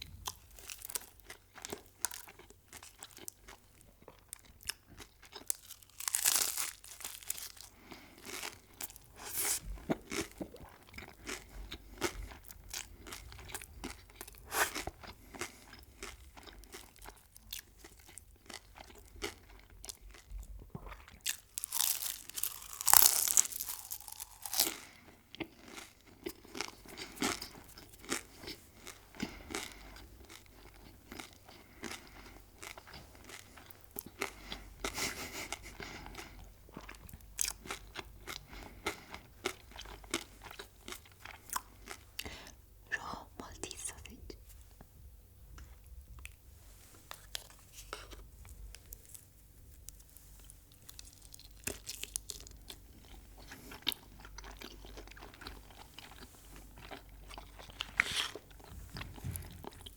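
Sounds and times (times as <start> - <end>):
crunchy food chewing: 0.0 - 42.6, 45.6 - 59.9.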